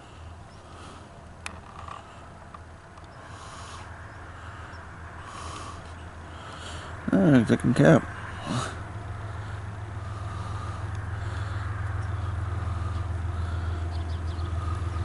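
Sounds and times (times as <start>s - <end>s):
diesel locomotive rumble: 0.0s - 15.0s.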